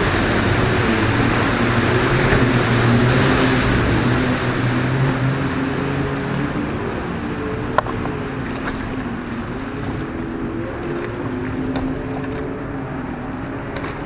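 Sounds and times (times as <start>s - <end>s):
water: 0.0s - 14.0s
wind: 0.0s - 14.0s.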